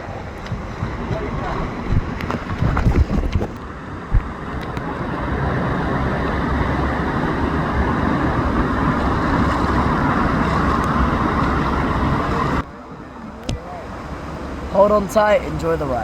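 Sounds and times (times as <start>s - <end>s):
wind rumbling on microphone: 0.0s - 14.7s
rushing water: 0.0s - 16.0s.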